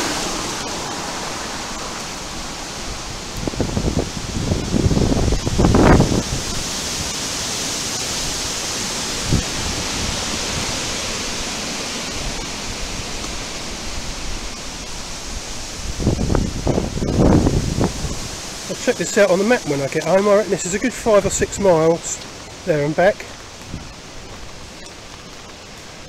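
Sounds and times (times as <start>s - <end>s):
wind buffeting microphone: 0.0s - 26.0s
wind rushing through trees: 0.0s - 26.0s.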